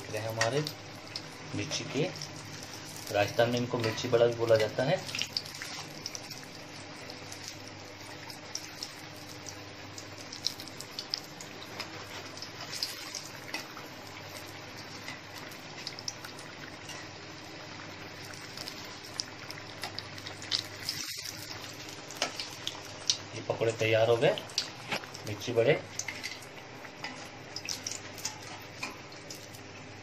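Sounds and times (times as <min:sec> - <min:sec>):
food deep-frying in hot oil: 0:00.0 - 0:30.0
oil crackling and popping: 0:00.0 - 0:30.0.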